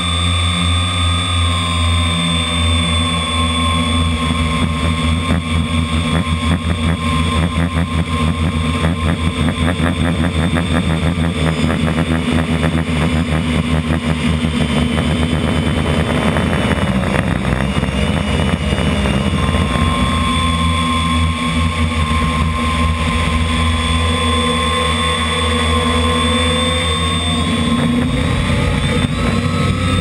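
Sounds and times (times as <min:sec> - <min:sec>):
high-pitched motor tone: 0:00.0 - 0:30.0
model aircraft motor droning: 0:00.0 - 0:30.0.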